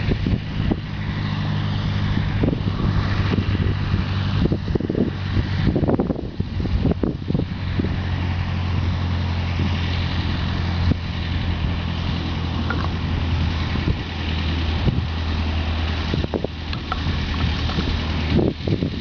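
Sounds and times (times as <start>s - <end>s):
light plane engine idling: 0.0s - 19.0s.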